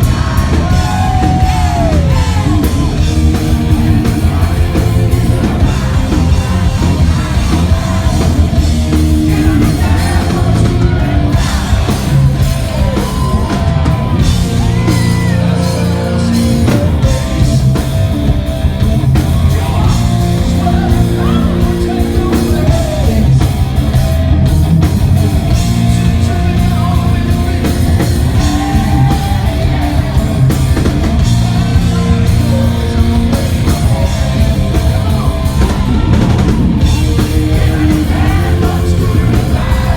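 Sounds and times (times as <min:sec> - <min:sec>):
person singing: 0:00.0 - 0:18.0, 0:19.2 - 0:23.6, 0:25.7 - 0:39.9
bass guitar: 0:00.0 - 0:39.9
distorted electric guitar: 0:00.0 - 0:39.9
drum kit: 0:00.0 - 0:39.9.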